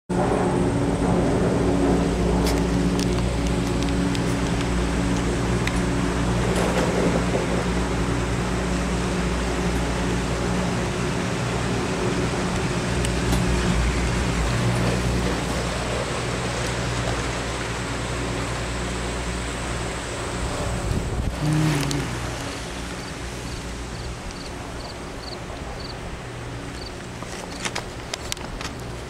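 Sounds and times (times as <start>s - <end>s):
chairlift mechanical hum: 0.1s - 29.0s.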